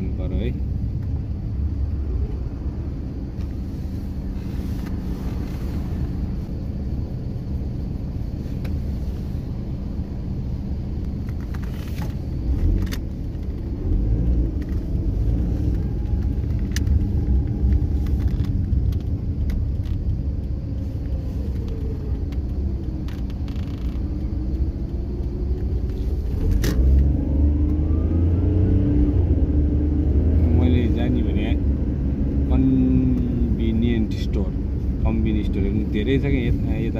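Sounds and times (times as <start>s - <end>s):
car engine and road rumble: 0.0s - 36.9s.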